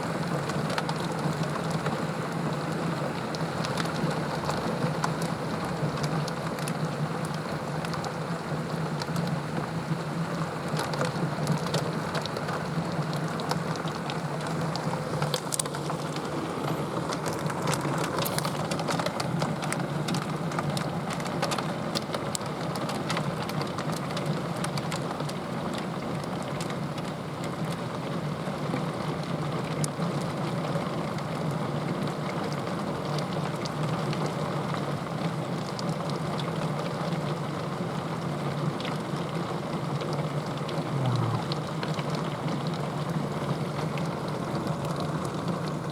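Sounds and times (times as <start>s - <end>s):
heavy rain pouring: 0.0s - 24.6s, 25.3s - 45.9s
sharp ticks of raindrops: 0.0s - 45.9s.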